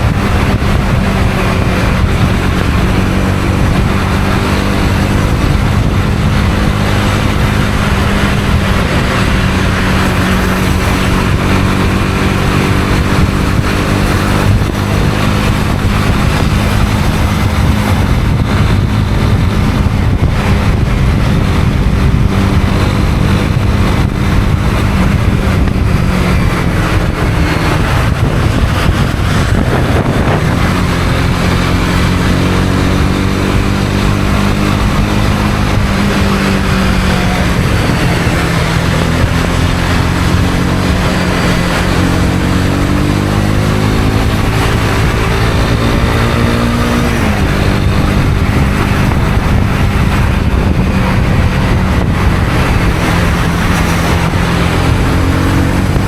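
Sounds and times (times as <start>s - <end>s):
motorcycle engine running: 0.0s - 56.0s
steady rushing noise: 0.0s - 56.0s.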